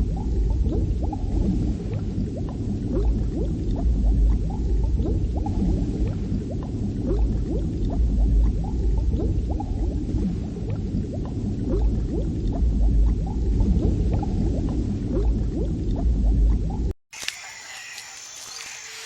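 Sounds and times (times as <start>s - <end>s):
steady low rumble: 0.0s - 16.9s
water bubbling and gurgling: 0.0s - 16.9s.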